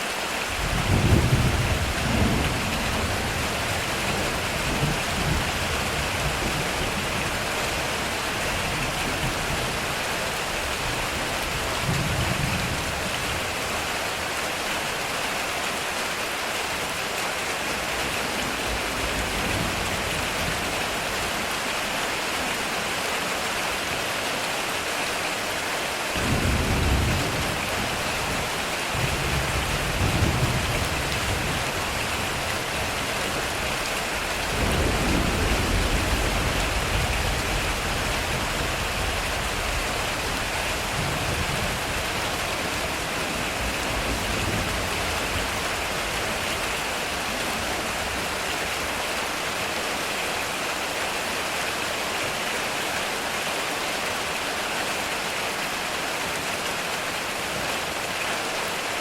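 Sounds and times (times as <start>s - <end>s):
heavy rain on a metal roof: 0.0s - 59.0s.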